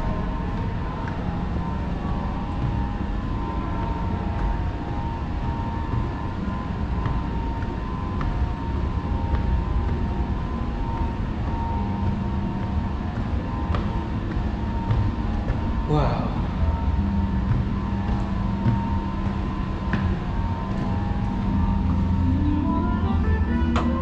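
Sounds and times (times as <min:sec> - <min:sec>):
faint steady hum: 0:00.0 - 0:24.0
low rumble: 0:00.0 - 0:24.0
footsteps on metal stairs: 0:02.4 - 0:22.4.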